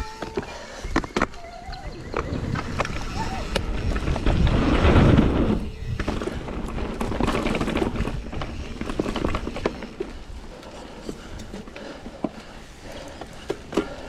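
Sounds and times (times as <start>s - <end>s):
bike clicks and rattles: 0.0s - 14.0s
bike tyres rolling on dirt: 0.0s - 14.0s.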